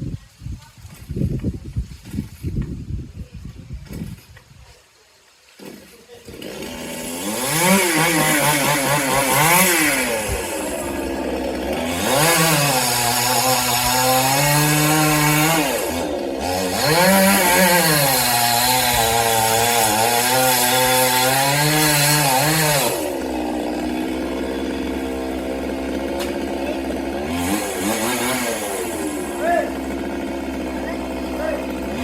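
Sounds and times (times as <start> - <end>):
chainsaw cutting wood: 5.5 - 32.0.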